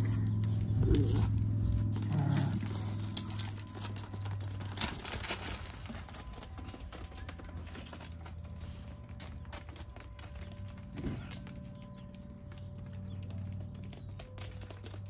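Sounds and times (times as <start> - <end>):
goat hooves tapping on concrete: 0.1 - 15.0.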